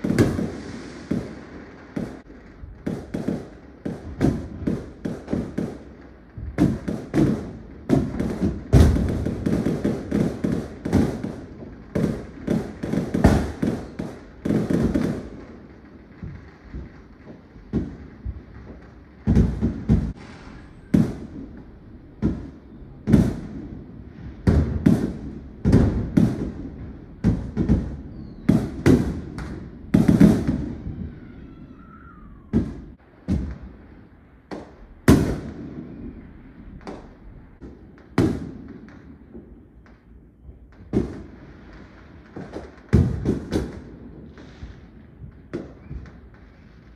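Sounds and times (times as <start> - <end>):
fireworks bangs and booms: 0.0 - 46.9.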